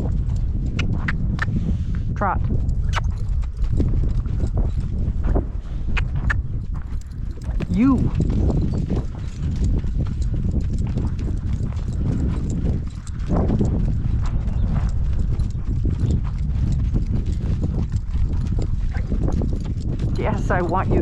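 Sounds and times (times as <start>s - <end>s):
horse hooves trotting on dirt: 0.0s - 21.0s.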